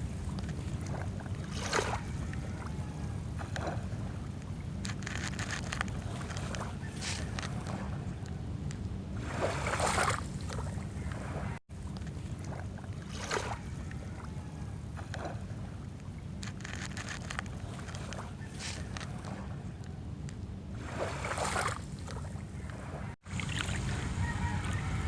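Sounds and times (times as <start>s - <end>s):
sea waves washing on shore: 0.0s - 25.0s
wind rumble on microphone: 0.0s - 25.0s.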